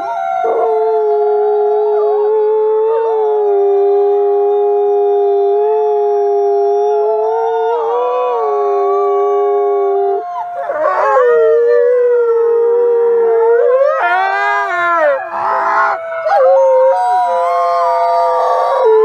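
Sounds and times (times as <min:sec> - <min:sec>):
wolves howling: 0:00.0 - 0:19.0.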